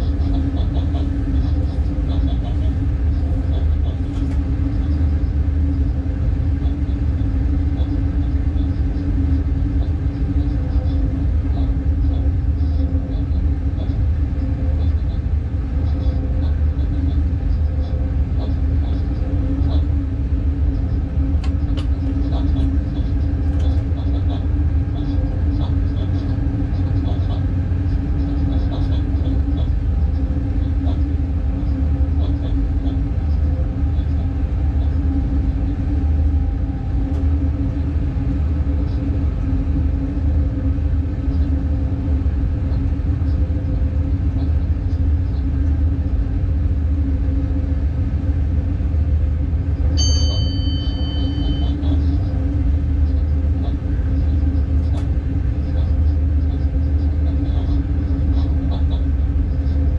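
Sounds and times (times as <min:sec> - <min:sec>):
constant hum: 0:00.0 - 0:59.9
locomotive cab rumble: 0:00.0 - 0:59.9.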